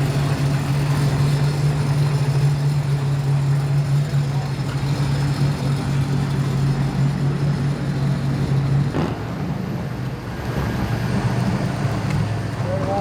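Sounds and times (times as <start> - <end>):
car engine running low speed: 0.0 - 13.0.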